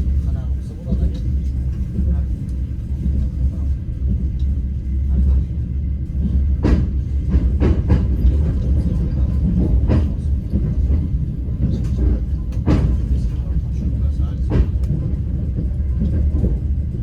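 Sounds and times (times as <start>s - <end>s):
train carriage rumbling: 0.0s - 17.0s.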